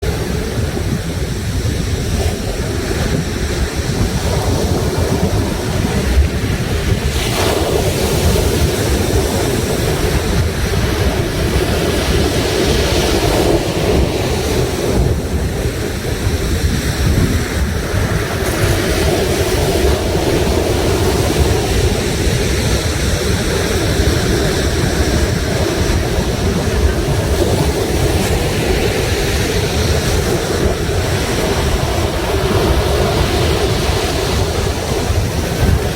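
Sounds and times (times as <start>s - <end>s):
sea surf washing ashore: 0.0s - 35.9s
wind buffeting microphone: 0.0s - 35.9s.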